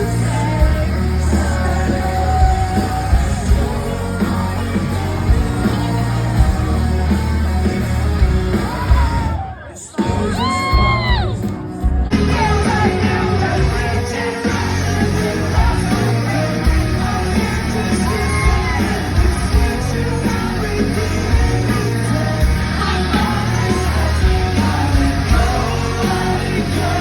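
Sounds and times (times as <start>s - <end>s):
live rock band playing: 0.0s - 27.0s
person singing and yelling: 0.0s - 27.0s.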